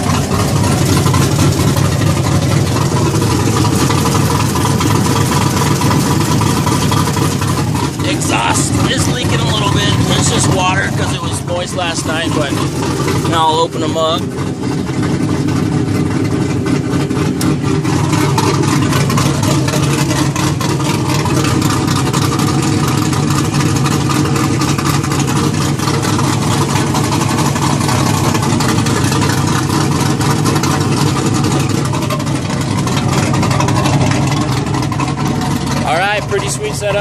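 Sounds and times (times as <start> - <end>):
loud engine idling: 0.0 - 37.0.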